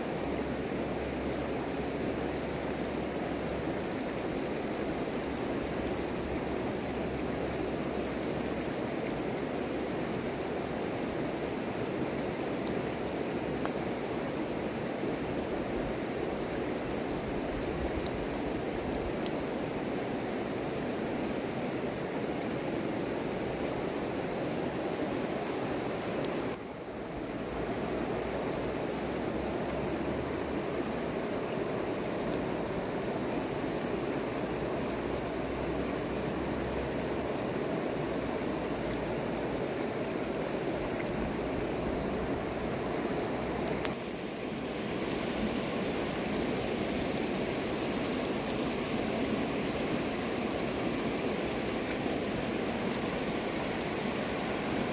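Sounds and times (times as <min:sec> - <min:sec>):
river rushing over gravel: 0:00.0 - 0:54.9.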